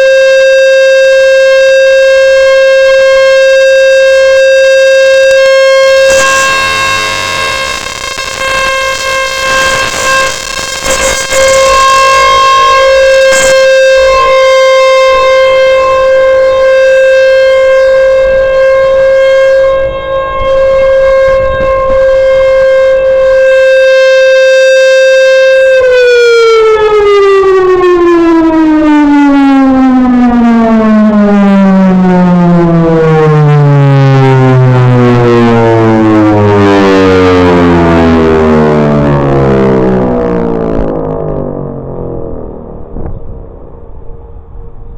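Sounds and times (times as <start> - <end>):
civil defense siren: 0.0 - 44.9.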